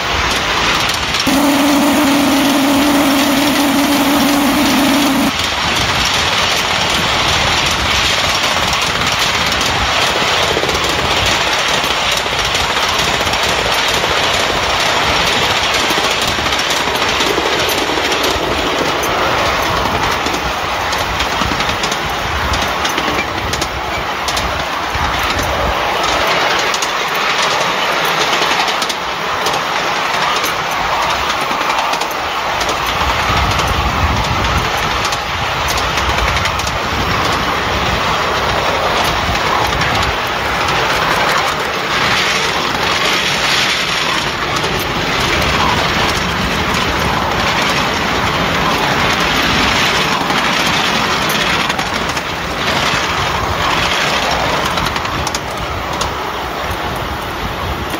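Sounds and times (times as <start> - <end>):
miniature steam locomotive running: 0.0 - 57.9
wheels clicking over rail joints: 5.7 - 57.9.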